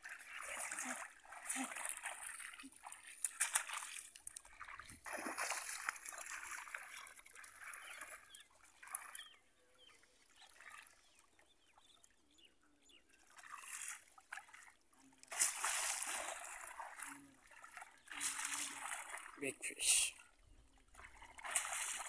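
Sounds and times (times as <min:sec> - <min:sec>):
water splashing and sloshing: 0:00.0 - 0:12.2, 0:13.0 - 0:22.0.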